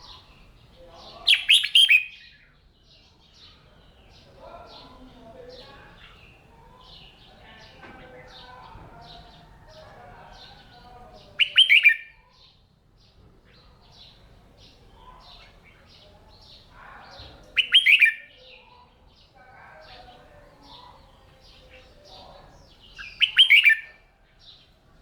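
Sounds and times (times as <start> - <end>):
bulbul singing: 0.0 - 13.1, 13.9 - 24.7
faint chirping of birds: 0.0 - 25.0.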